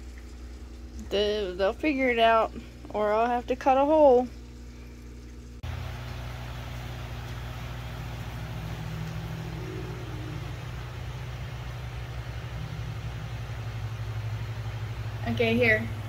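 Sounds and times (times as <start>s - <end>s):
constant hiss: 0.0s - 16.0s
low electrical hum: 0.0s - 16.0s.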